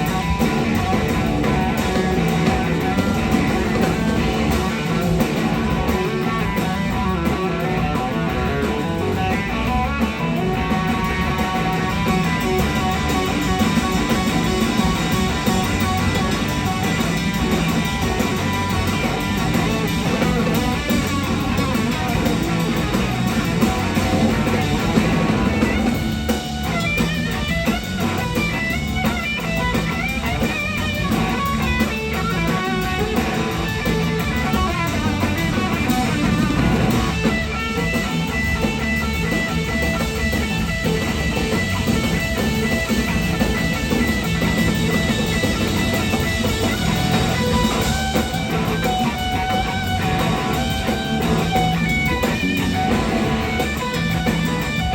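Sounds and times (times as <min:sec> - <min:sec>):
rock band with bass and drums: 0:00.0 - 0:54.9.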